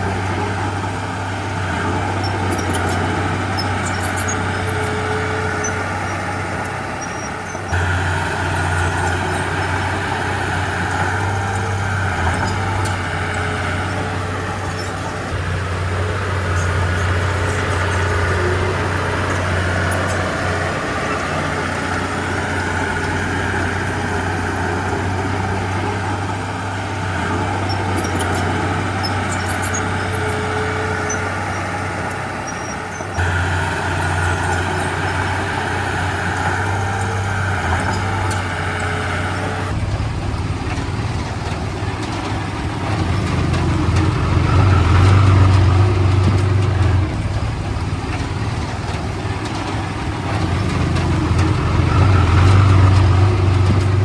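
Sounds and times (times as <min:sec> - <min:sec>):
heavy diesel machinery engine drone: 0:00.0 - 0:54.0.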